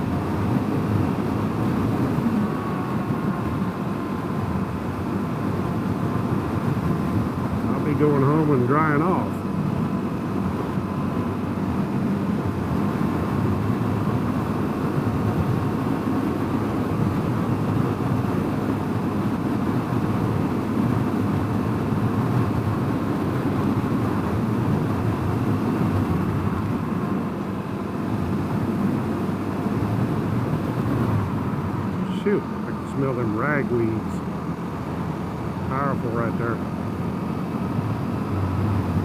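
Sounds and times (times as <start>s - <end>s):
wind rush on microphone: 0.0s - 32.8s, 33.4s - 39.0s
motorcycle engine cruising: 0.0s - 39.0s.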